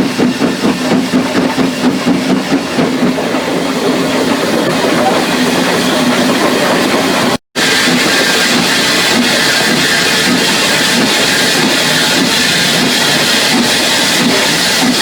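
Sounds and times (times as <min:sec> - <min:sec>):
faint regular rail beat: 0:00.0 - 0:15.0
train rumble and hiss: 0:00.0 - 0:15.0.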